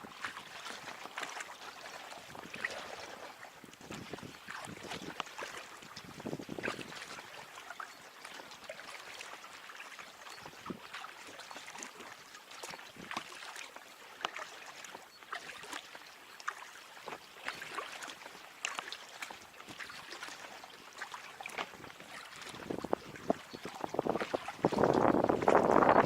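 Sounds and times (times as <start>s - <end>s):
paddle splashing in water: 0.0s - 26.0s
water dripping off paddle: 0.2s - 9.3s, 9.9s - 26.0s.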